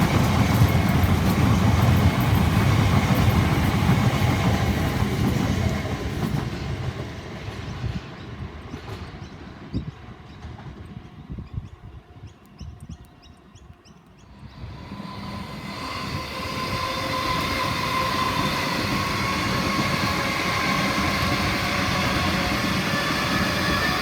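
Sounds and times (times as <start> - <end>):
train wheels rumbling on rail: 0.0 - 12.0, 14.3 - 24.0.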